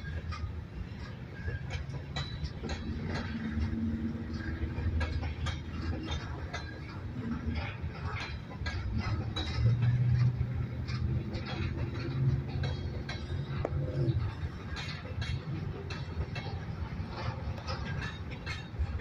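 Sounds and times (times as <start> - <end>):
train rolling past rumbling: 0.0 - 19.0
wheels and couplers clanking: 0.0 - 19.0.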